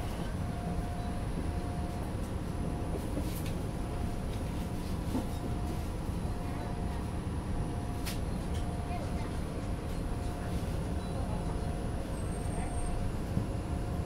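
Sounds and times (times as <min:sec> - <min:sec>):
bus interior rumble: 0:00.0 - 0:14.0.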